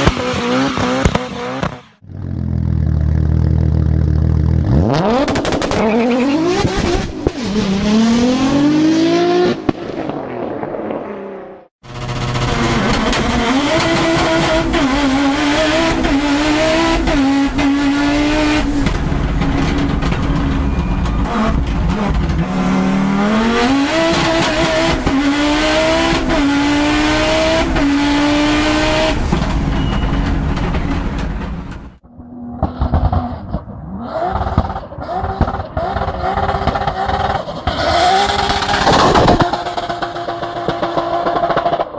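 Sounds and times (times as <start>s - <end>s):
turbocharged car engine accelerating: 0.0s - 29.9s, 32.1s - 41.9s.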